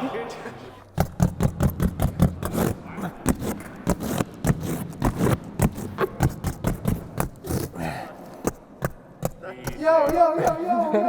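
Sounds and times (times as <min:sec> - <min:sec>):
knife slicing cardboard: 0:01.0 - 0:10.9.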